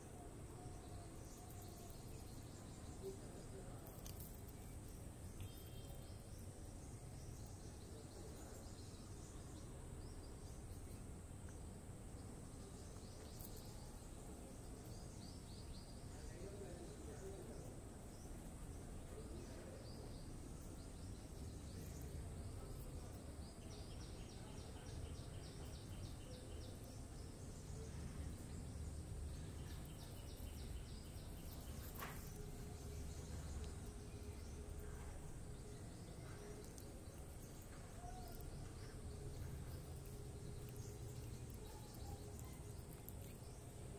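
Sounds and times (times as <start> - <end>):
faint low hum: 0.0 - 43.9
small bird chirping: 0.5 - 43.9.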